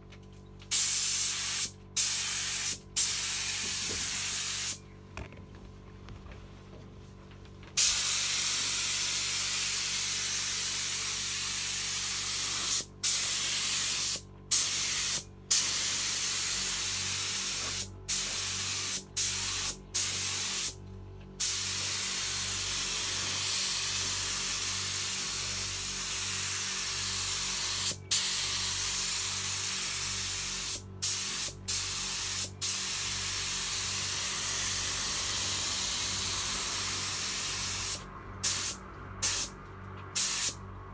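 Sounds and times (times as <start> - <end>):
spray gun hissing: 0.7 - 4.8, 7.8 - 20.8, 21.4 - 39.5, 40.2 - 40.6.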